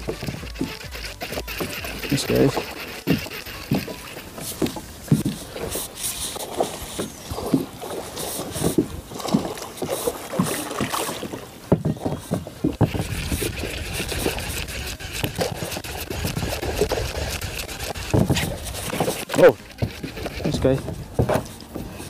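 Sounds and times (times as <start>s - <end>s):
waves slapping against kayak hull: 0.0s - 21.4s
wind on microphone: 0.0s - 22.0s.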